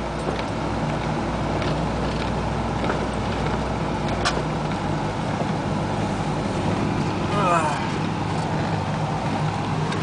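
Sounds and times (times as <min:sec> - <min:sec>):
car engine hum: 0:00.0 - 0:10.0
tyre noise on wet road: 0:00.0 - 0:10.0.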